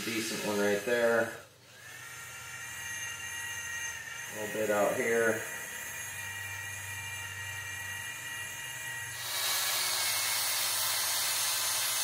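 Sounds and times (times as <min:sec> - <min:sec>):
drill motor whine: 0:00.0 - 0:12.0.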